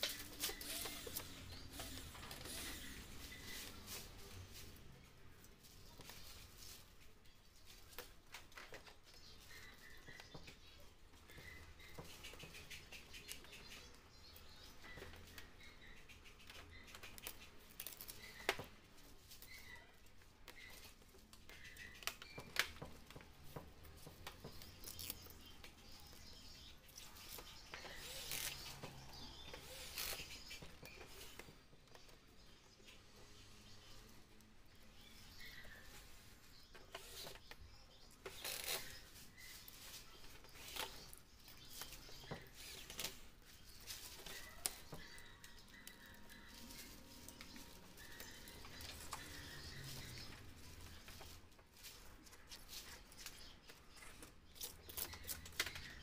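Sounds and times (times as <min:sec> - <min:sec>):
small scratches and clicks: 0:00.0 - 0:56.0.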